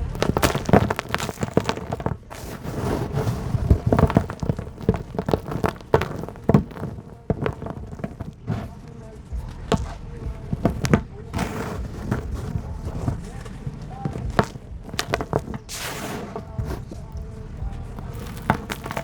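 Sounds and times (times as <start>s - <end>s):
dry dirt crumbling and crunching: 0.0s - 19.0s
soft thuds of falling pieces: 0.0s - 19.0s.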